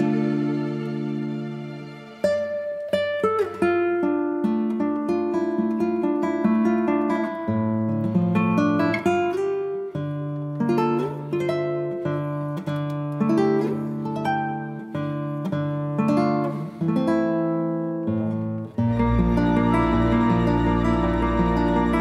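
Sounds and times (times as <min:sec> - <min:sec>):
acoustic guitar picking and strumming: 0:00.0 - 0:22.0.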